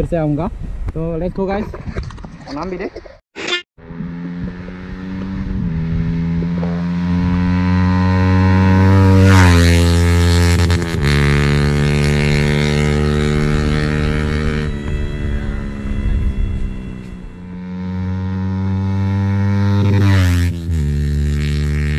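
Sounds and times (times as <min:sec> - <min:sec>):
motorcycle exhaust note: 0:03.8 - 0:21.9.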